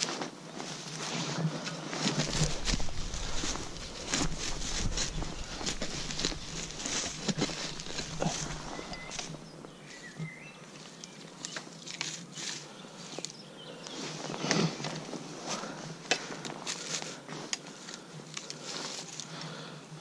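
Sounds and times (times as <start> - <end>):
crunching dry leaves and twigs: 0.0 - 20.0.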